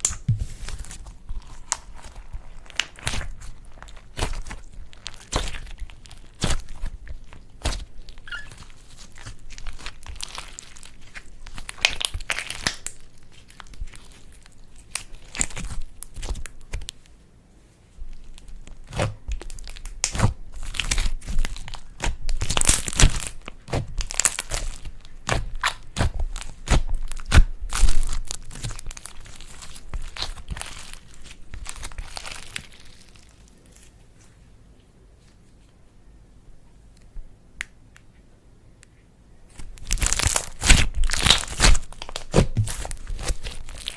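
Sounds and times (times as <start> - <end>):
slime crackling and popping: 0.0 - 16.9, 18.1 - 33.9, 39.5 - 43.9.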